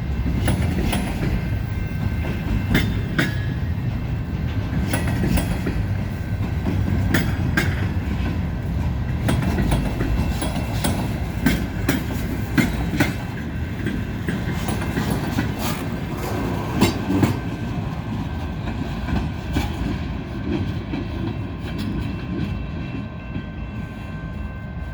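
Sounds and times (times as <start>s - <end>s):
train wheels rumbling on rail: 0.0s - 24.9s
wheels clacking over rail joints: 0.2s - 22.6s.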